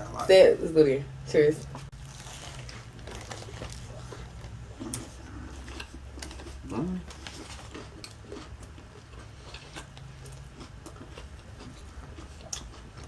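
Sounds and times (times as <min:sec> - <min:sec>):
low steady hum: 0:00.0 - 0:13.0
chewing crispy food: 0:01.6 - 0:13.0.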